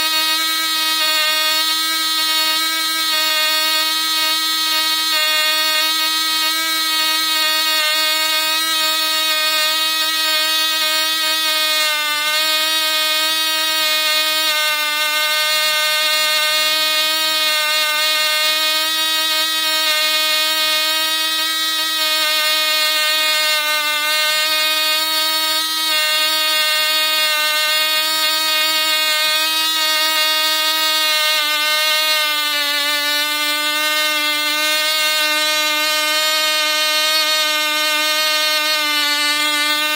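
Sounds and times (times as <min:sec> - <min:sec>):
model engine high-pitched buzz: 0:00.0 - 0:39.9.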